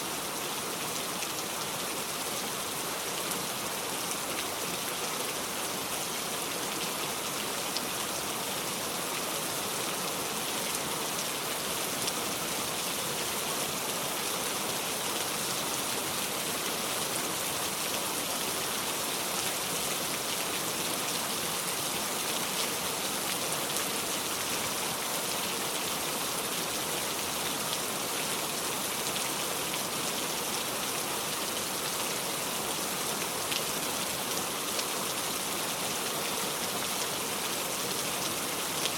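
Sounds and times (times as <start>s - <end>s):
heavy rain on metal roof: 0.1s - 38.9s.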